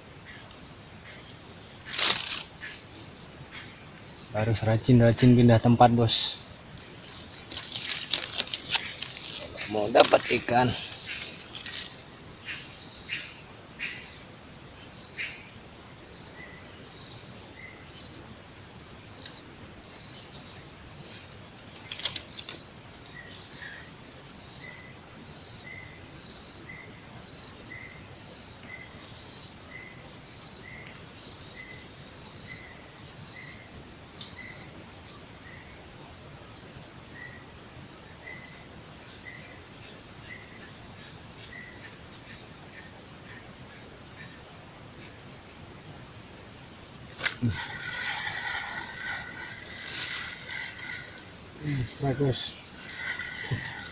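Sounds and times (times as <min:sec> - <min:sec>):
insects droning: 0:00.0 - 0:53.9
loud insect chirp: 0:00.0 - 0:53.9.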